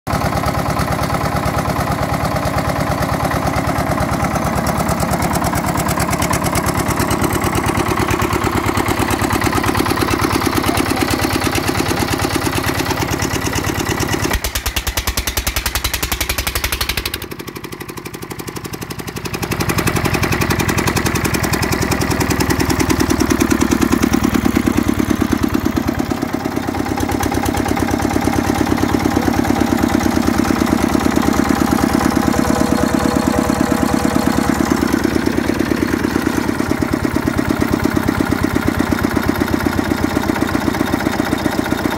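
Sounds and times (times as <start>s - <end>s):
diesel engine chugging: 0.1s - 41.9s.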